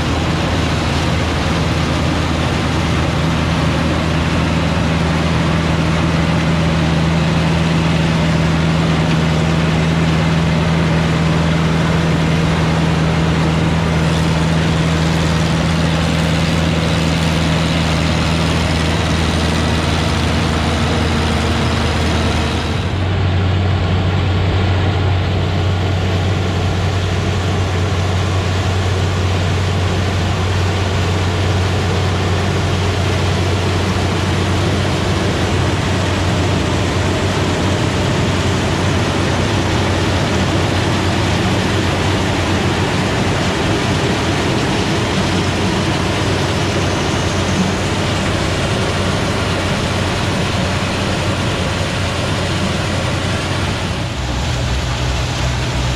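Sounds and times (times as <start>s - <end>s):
low engine drone: 0.0s - 55.9s
machinery noise: 0.0s - 55.9s.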